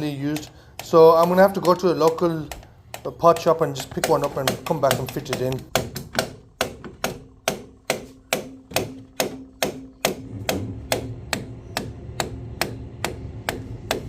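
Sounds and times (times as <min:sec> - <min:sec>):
sharp knocks: 0:00.4 - 0:14.0.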